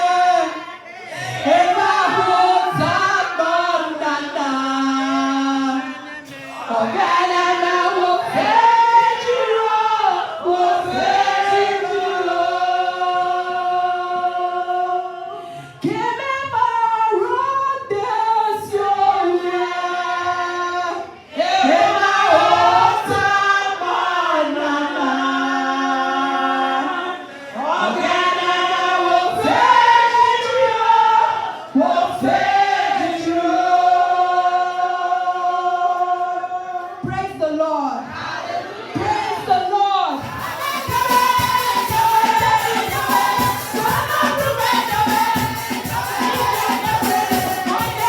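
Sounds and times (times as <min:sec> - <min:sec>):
choir singing slow worship song: 0:00.0 - 0:48.0.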